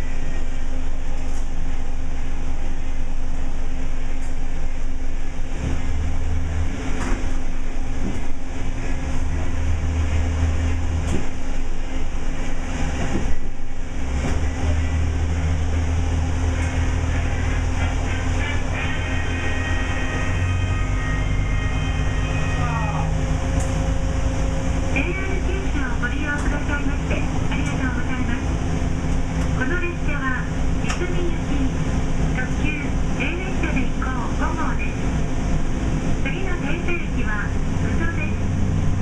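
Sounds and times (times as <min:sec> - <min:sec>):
diesel railcar droning: 0:00.0 - 0:39.0.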